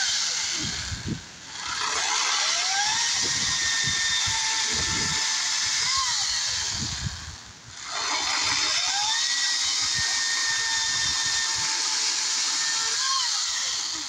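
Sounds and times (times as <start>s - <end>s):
electric chainsaw cutting log: 0.0s - 14.0s.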